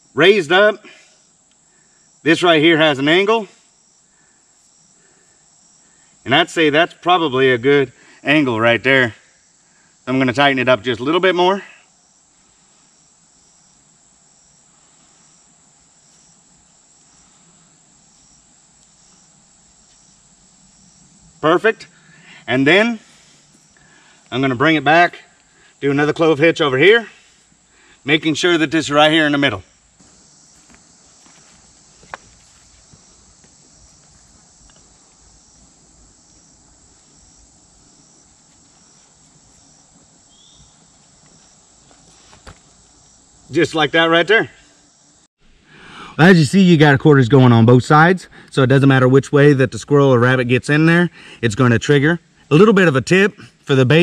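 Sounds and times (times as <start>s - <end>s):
insect chirping: 0.0s - 54.0s
insects high-pitched drone: 0.0s - 54.0s.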